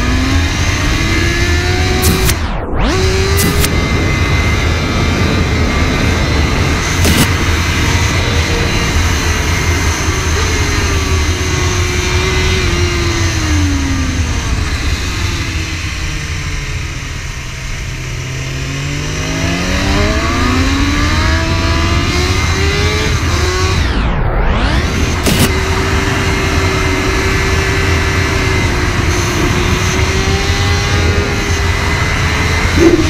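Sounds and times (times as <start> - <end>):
heavy wind rush: 0.0 - 33.0
motorcycle engine revving: 0.0 - 33.0.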